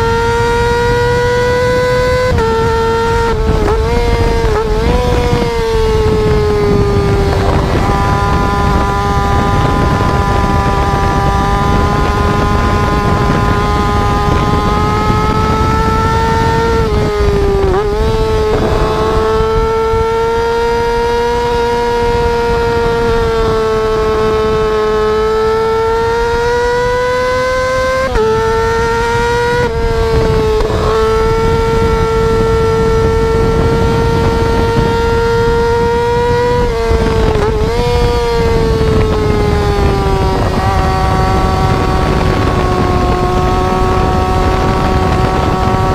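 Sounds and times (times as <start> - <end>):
motorcycle engine at high revs: 0.0 - 45.9
wind rushing past microphone: 0.0 - 45.9.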